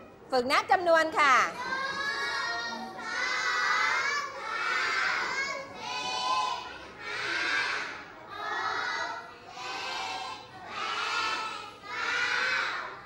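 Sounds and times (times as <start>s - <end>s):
children counting aloud together: 1.5s - 13.0s.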